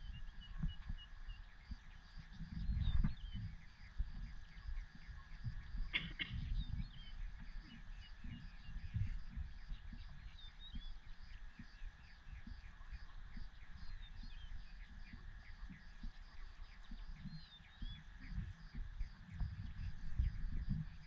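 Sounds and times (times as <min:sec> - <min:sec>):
faint low rumble: 0:00.0 - 0:21.0
insects chirping: 0:00.0 - 0:21.0.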